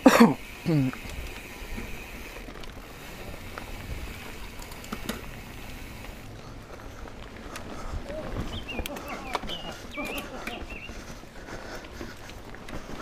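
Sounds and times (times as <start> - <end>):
bike clicks and rattles: 0.0 - 13.0
tyre rumble on dirt trail: 0.1 - 13.0.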